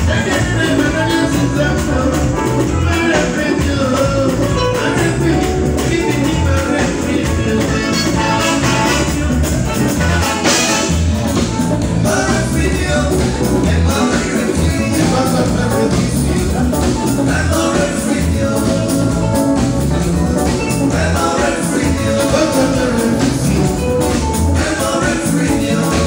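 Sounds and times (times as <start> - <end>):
heavy bass line: 0.0 - 26.0
highlife band playing loud: 0.0 - 26.0
keyboards: 0.0 - 26.0.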